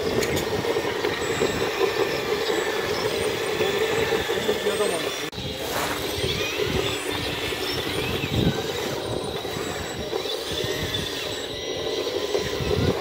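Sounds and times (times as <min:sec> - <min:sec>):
motor and hydraulic pump whine: 0:00.0 - 0:13.0.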